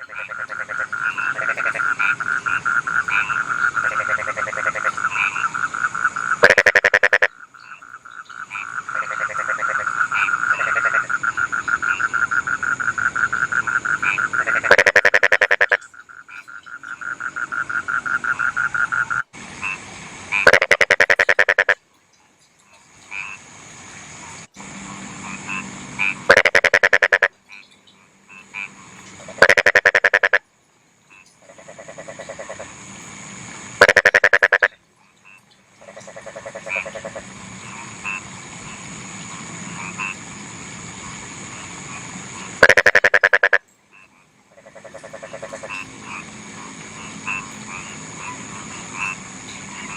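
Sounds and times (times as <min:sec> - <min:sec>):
frogs rattling croaks: 0:00.0 - 0:21.8, 0:22.4 - 0:49.9
quieter pulsed frog calls: 0:00.0 - 0:21.8, 0:22.6 - 0:23.5, 0:24.1 - 0:49.9.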